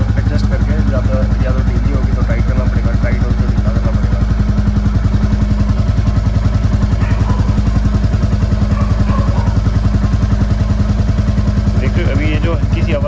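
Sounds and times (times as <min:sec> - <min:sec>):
motorcycle engine thumping: 0:00.0 - 0:13.0.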